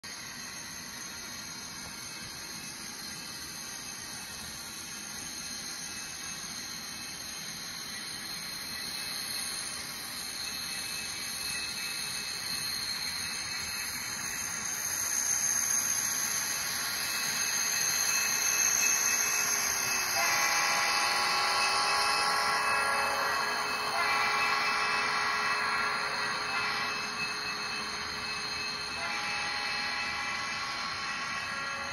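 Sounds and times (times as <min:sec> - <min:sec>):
low locomotive hum: 0:00.1 - 0:31.9
model train motor whine: 0:00.1 - 0:31.9.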